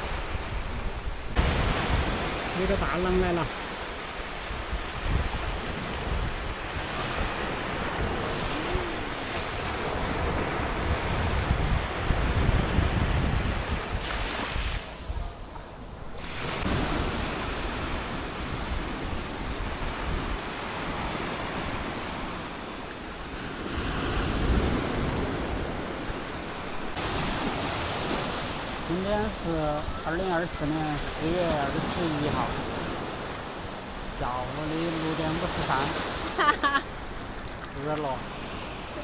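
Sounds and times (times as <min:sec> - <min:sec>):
wind buffeting microphone: 0:00.0 - 0:36.3
sea waves breaking: 0:00.0 - 0:39.0.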